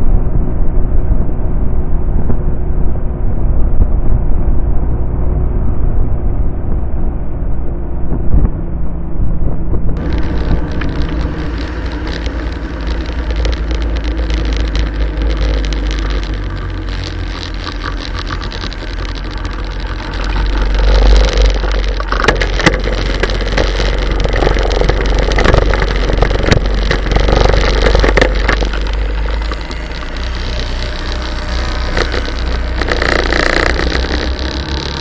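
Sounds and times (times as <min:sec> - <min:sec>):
motorcycle engine: 0:00.0 - 0:35.0
wind rumble on microphone: 0:00.0 - 0:35.0.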